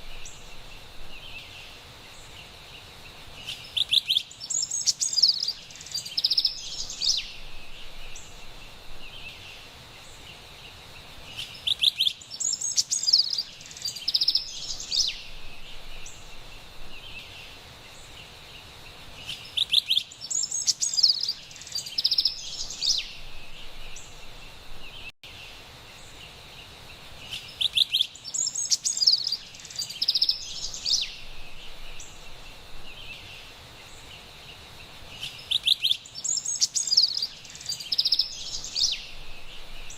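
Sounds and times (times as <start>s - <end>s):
faint forest background hiss: 0.0s - 39.9s
wren singing: 3.3s - 25.1s, 27.2s - 39.9s.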